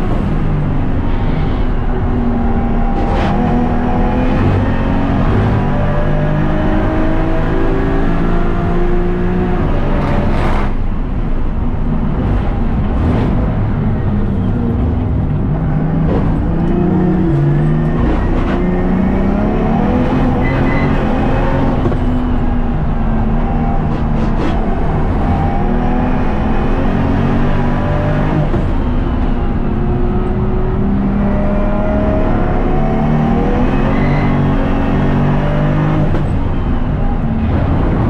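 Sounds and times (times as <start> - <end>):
race car engine revving: 0.0 - 38.0.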